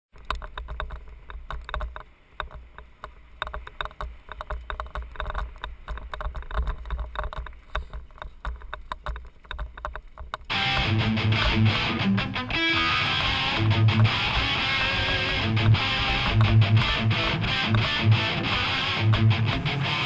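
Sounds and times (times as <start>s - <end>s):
bike rattling and clattering: 0.1s - 20.0s.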